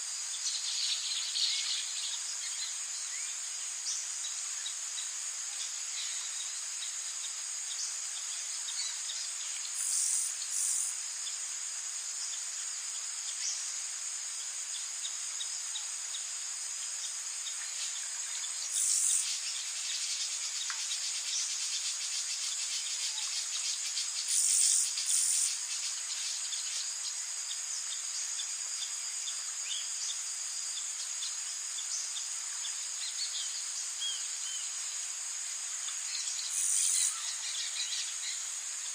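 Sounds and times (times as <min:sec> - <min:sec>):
insects chorus: 0:00.0 - 0:38.9.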